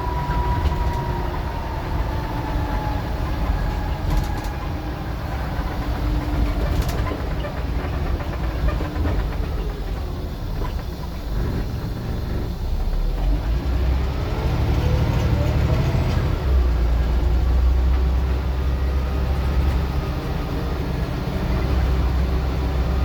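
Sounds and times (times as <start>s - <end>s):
bus engine running: 0.0s - 23.0s.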